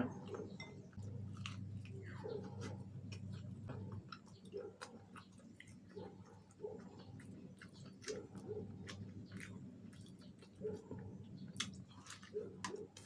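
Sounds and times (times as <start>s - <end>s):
person chewing crunchy food: 0.2s - 13.0s.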